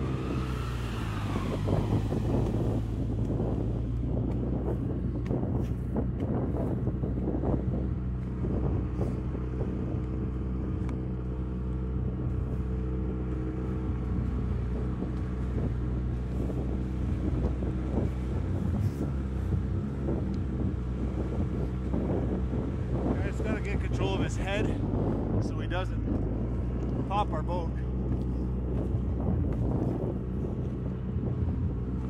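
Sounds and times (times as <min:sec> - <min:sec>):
outboard motor running: 0:00.0 - 0:32.0
wind buffeting microphone: 0:00.0 - 0:32.0.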